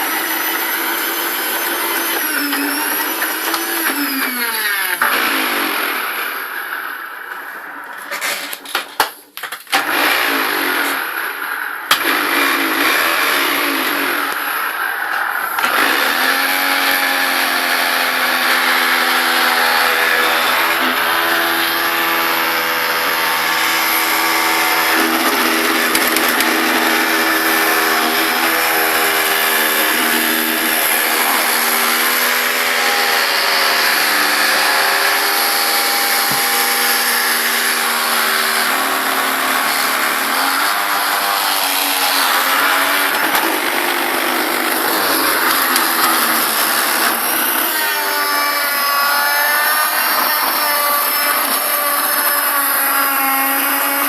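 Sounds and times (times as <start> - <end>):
vacuum cleaner motor wavering: 0.0 - 7.0, 9.8 - 54.0.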